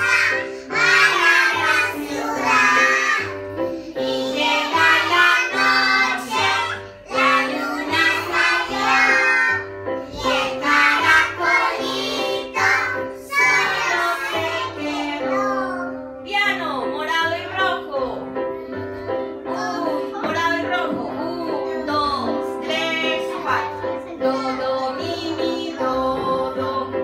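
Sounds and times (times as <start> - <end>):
woman and children singing: 0.0 - 15.8, 19.4 - 27.0.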